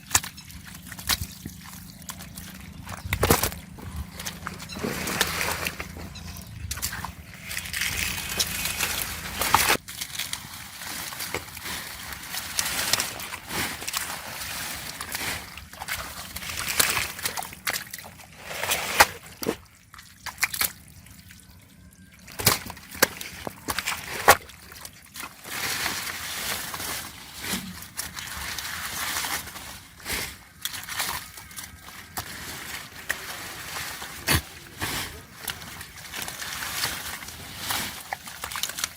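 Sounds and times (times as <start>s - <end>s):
water sloshing and splashing: 0.0s - 38.9s.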